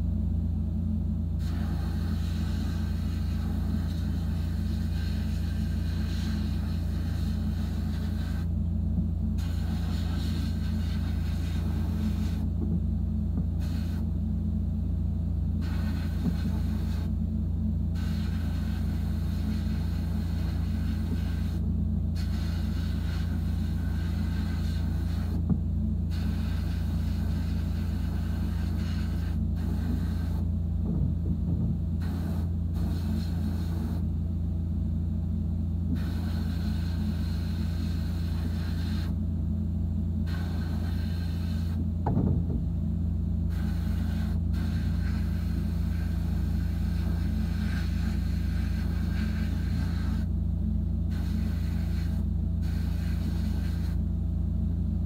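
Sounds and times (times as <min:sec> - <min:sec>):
blast cabinet humming: 0:00.0 - 0:55.0.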